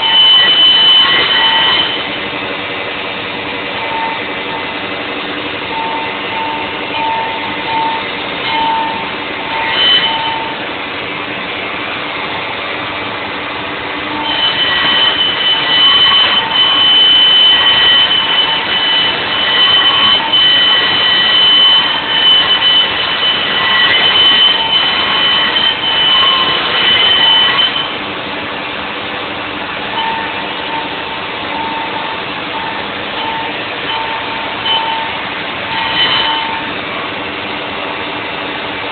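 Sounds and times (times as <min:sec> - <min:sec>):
cnc router spindle whining: 0:00.0 - 0:38.9.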